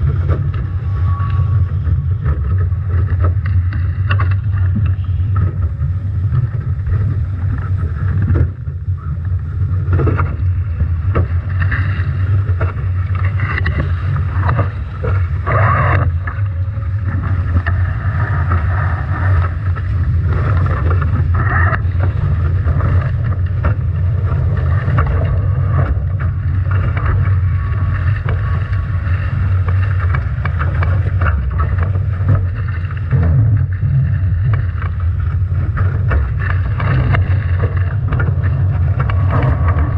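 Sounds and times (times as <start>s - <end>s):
water rushing against hulls: 0.0s - 39.9s
water splashes: 0.0s - 39.9s
wind buffeting microphone: 0.0s - 39.9s.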